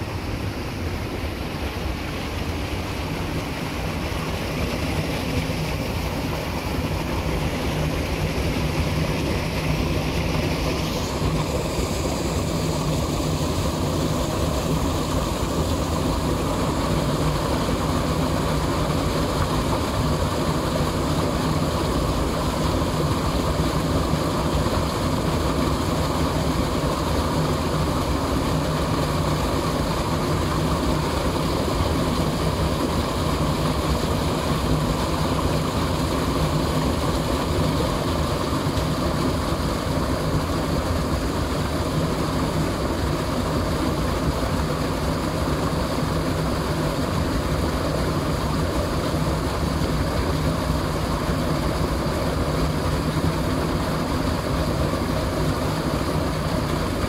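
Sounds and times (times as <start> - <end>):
stream rushing over a drop: 0.0 - 57.0.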